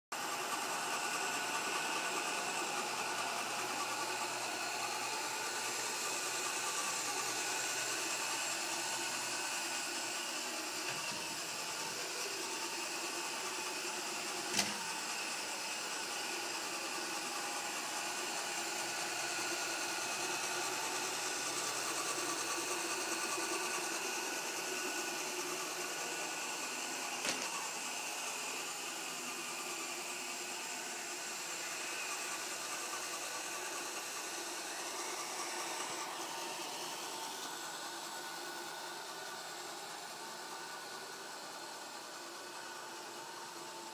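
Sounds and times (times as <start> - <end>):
robot vacuum motor whirring: 0.2 - 43.9.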